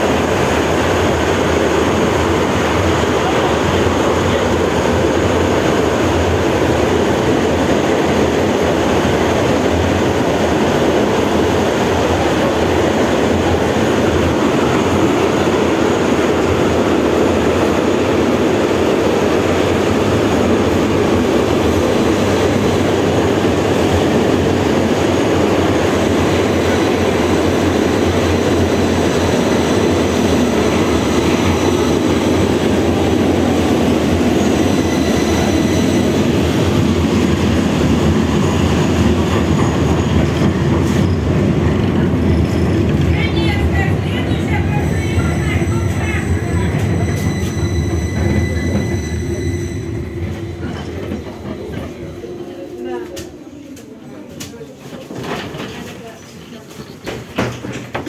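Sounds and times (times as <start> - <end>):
tram wheels rumbling on rail: 0.0 - 58.0.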